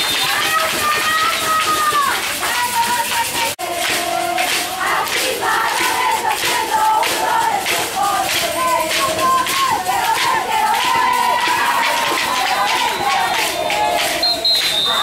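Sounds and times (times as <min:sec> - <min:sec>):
crowd shouting and chanting: 0:00.0 - 0:15.0.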